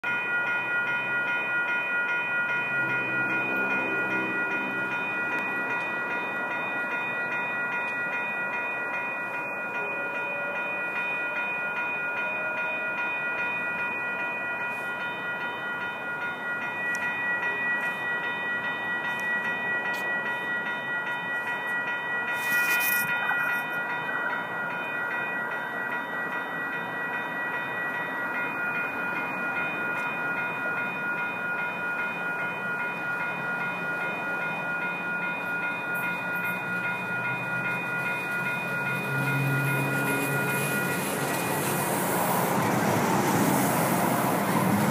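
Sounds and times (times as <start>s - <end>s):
rail and street noise: 0.0s - 44.9s
rail crossing warning bells: 0.0s - 44.9s.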